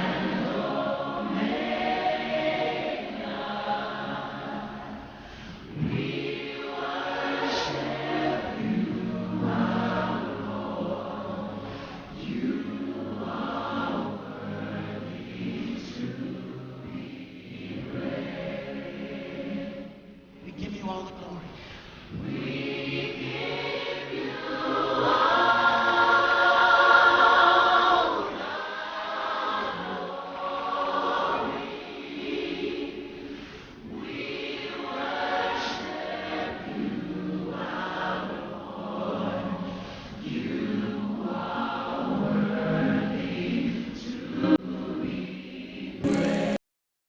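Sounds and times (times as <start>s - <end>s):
choir singing gospel song: 0.0s - 20.2s, 21.6s - 46.6s.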